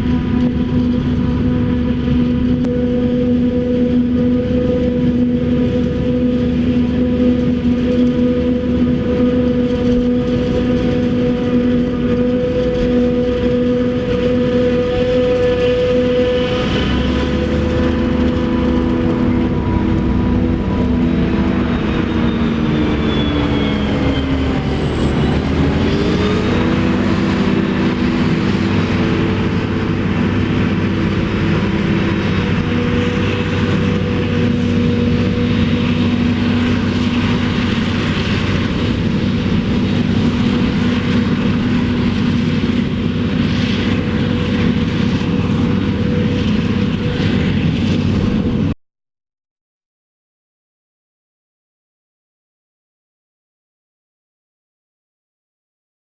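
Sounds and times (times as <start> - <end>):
high whine: 0.0 - 48.7
diesel machinery running: 0.0 - 48.8.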